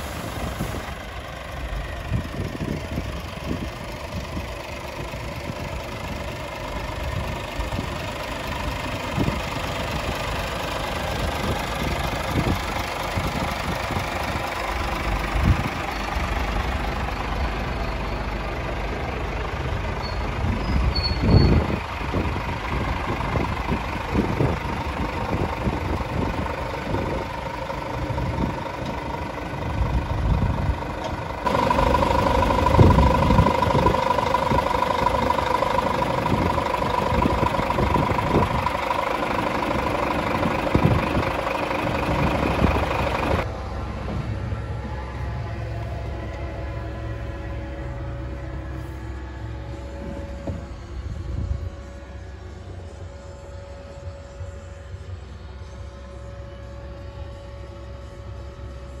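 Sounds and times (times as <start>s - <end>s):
truck diesel engine idling: 0.0s - 59.0s.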